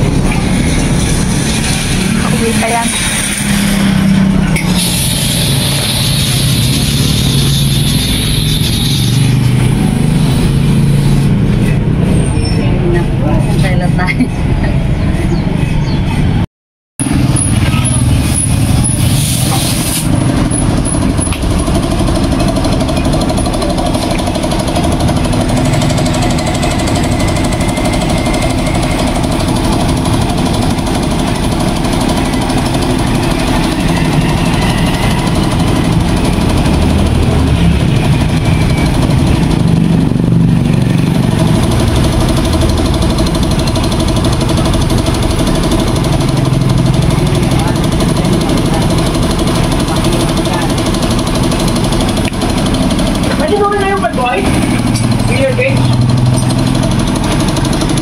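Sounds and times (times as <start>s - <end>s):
engine running with low hum: 0.0s - 16.4s, 17.0s - 58.0s.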